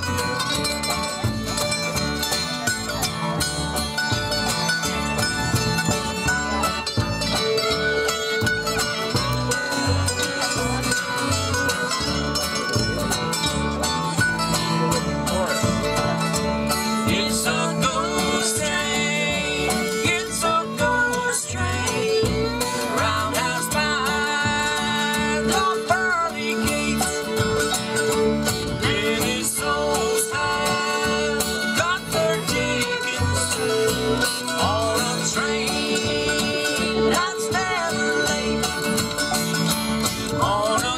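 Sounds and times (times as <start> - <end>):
acoustic guitar: 0.0 - 40.9
banjo: 0.0 - 40.9
fiddle: 0.0 - 40.9
mandolin: 0.0 - 40.9
upright bass: 0.0 - 40.9.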